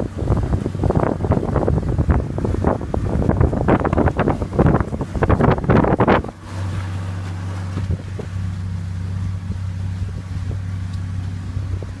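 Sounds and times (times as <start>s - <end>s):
boat motor humming: 0.0s - 12.0s
wind buffeting microphone: 0.0s - 12.0s.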